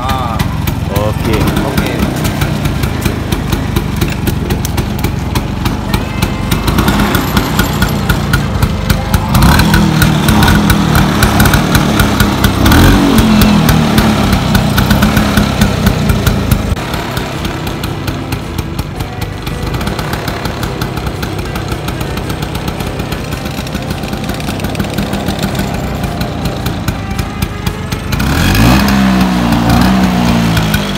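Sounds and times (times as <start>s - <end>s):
scooter engine revving and idling: 0.0s - 30.9s.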